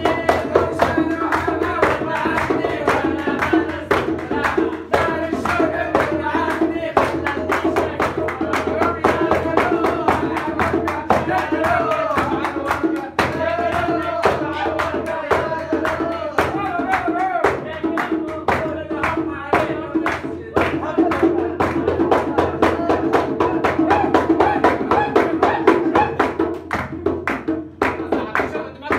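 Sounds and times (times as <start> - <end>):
hand claps: 0.0 - 28.9
hand drum beating: 0.0 - 28.9.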